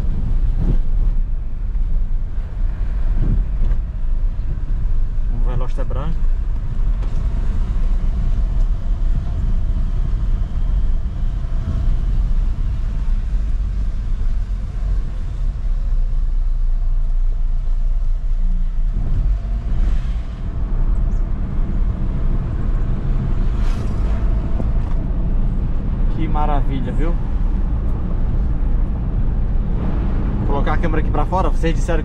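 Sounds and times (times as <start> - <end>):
engine and road noise rumble: 0.0 - 32.0.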